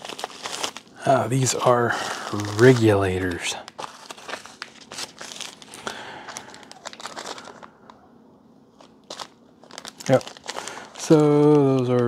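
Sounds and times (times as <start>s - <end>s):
plastic packaging crinkling: 0.0s - 8.0s, 8.7s - 12.0s.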